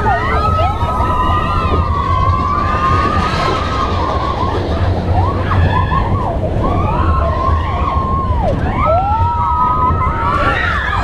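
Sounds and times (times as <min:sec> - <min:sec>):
riders whooping: 0:00.0 - 0:11.0
roller coaster rumbling on track: 0:00.0 - 0:11.0.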